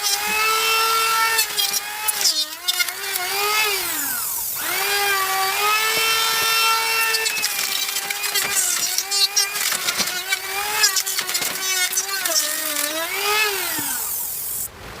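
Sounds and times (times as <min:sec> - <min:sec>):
cutter scraping and knocking: 0:00.0 - 0:14.7
power tool motor whining: 0:00.0 - 0:14.7.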